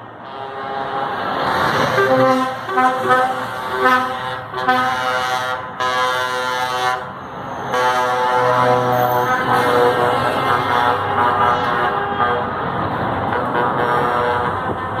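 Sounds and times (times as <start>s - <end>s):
truck engines rumbling: 0.0s - 15.0s
truck air horns blasting: 0.2s - 15.0s.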